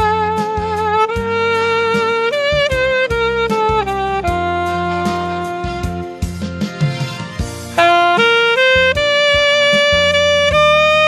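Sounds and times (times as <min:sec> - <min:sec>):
backing track with bass and drums: 0:00.0 - 0:11.0
saxophone melody: 0:00.0 - 0:11.0.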